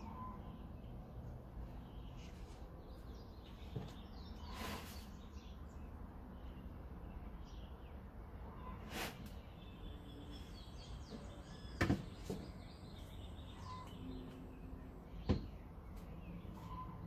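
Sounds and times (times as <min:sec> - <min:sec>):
outdoor background hiss: 0:00.0 - 0:16.7
birds chirping: 0:00.0 - 0:17.0.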